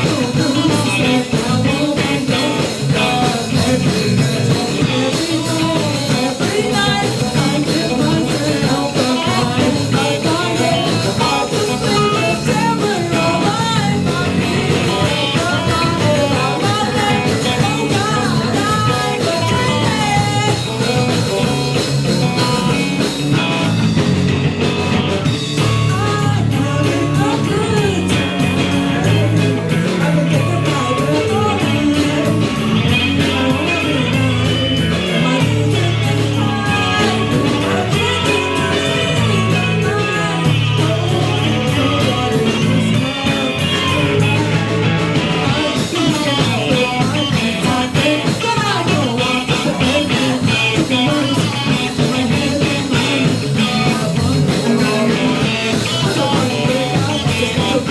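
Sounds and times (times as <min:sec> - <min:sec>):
distorted electric guitar: 0:00.0 - 0:57.9
live rock band playing: 0:00.0 - 0:57.9.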